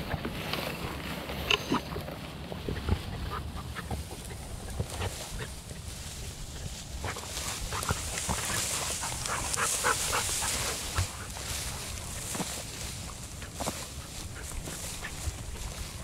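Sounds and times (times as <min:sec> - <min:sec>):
dog panting and sniffing: 0:00.0 - 0:16.0
dry grass rustling: 0:00.0 - 0:16.0.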